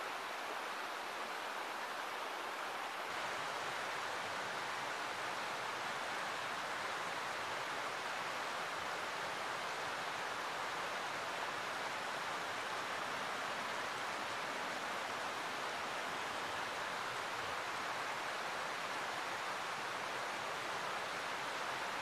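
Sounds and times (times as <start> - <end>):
stream running over stones: 0.0 - 22.0.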